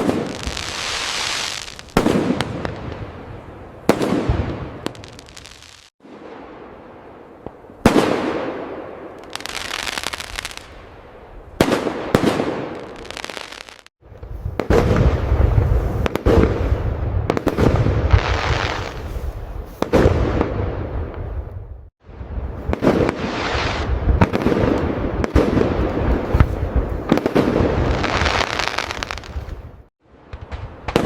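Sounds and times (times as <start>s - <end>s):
fireworks crackling: 0.0s - 6.4s, 7.5s - 10.8s, 11.6s - 20.6s, 22.4s - 29.7s
fireworks aerial bangs: 0.0s - 6.7s, 11.6s - 21.4s, 22.1s - 31.0s.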